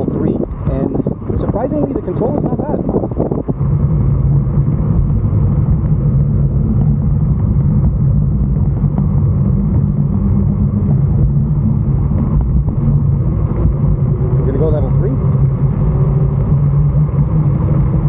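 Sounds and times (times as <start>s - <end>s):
electric scooter riding rumble: 0.0s - 18.0s.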